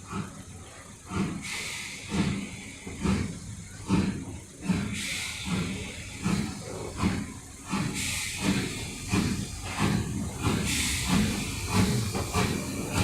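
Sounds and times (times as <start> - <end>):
locomotive low rhythmic beat: 0.0 - 13.0
steam locomotive hissing steam: 0.0 - 13.0.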